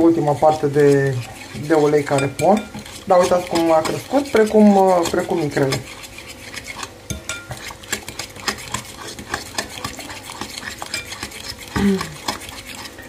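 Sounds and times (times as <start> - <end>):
metal spoon scraping glass bowl: 0.0 - 13.0.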